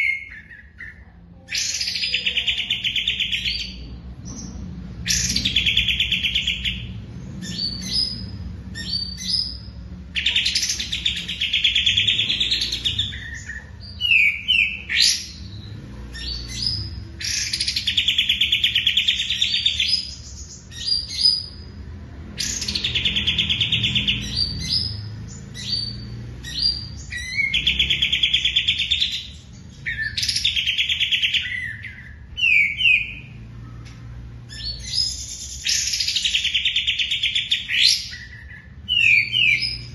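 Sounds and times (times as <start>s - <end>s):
high bird chirps: 0.0s - 39.9s.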